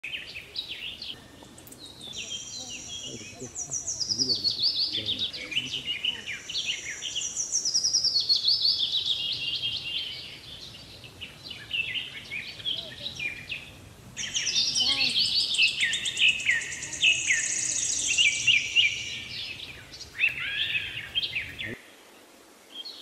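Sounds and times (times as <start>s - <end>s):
bird chirps: 0.1s - 21.8s
songbird trilling: 0.1s - 21.8s.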